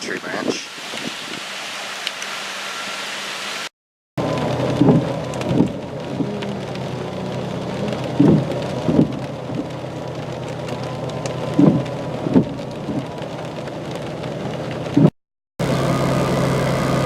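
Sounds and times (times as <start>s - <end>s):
heavy rain: 0.0s - 17.0s
wind: 0.0s - 17.0s.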